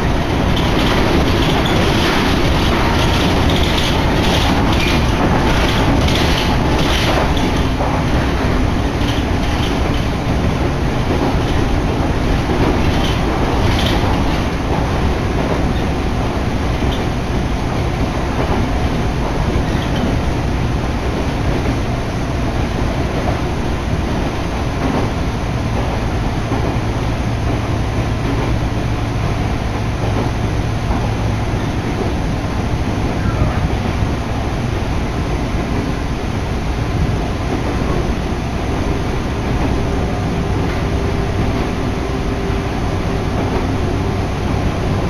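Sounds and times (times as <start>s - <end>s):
rail joint clicks: 0.0s - 45.0s
train wheels rumbling on rails: 0.0s - 45.0s.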